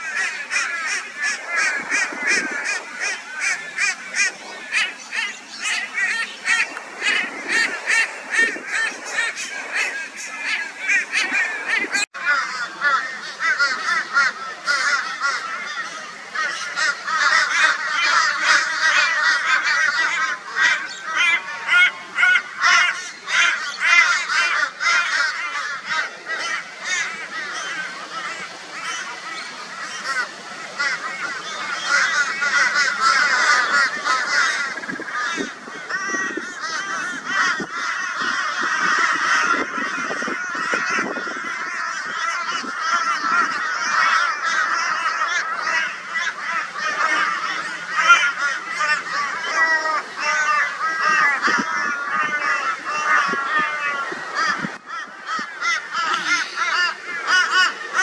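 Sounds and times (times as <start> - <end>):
crows calling raucously: 0.0 - 58.0.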